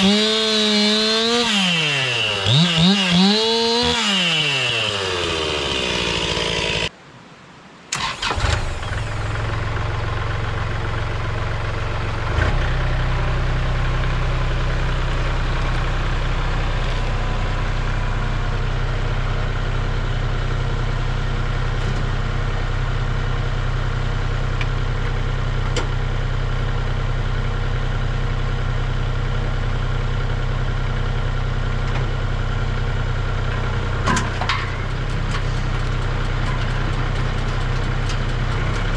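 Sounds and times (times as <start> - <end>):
tractor diesel engine running: 0.0 - 6.9, 7.9 - 38.9.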